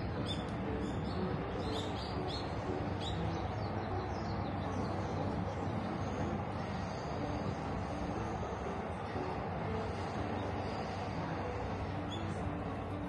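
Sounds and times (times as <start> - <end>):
small birds chirping: 0.0 - 9.2, 9.8 - 12.9
low background hum: 0.0 - 13.0.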